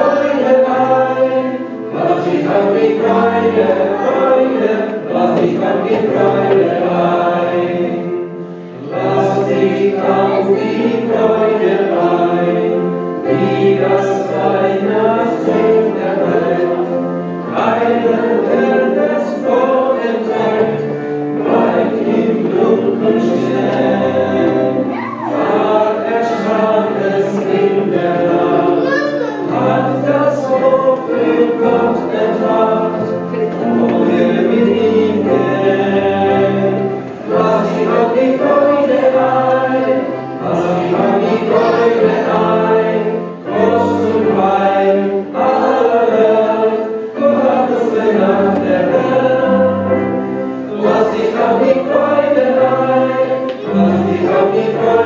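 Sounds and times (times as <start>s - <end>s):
congregation singing: 0.0s - 55.0s.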